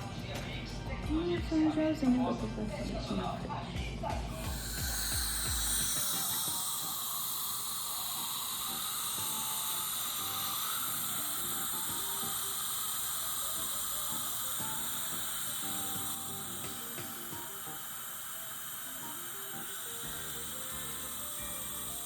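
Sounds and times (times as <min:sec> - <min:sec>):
dental equipment hissing: 0:04.3 - 0:22.0.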